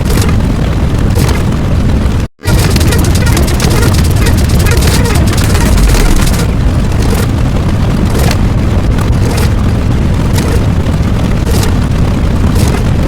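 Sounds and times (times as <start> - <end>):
distorted rumbling noise: 0.0 - 13.0
hissing surges: 2.4 - 13.0.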